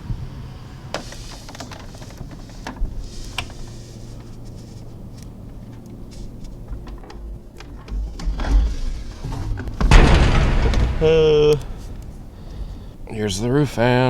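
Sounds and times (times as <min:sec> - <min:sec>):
low steady hum: 0:00.0 - 0:14.0
light clicks and knocks: 0:00.9 - 0:13.0.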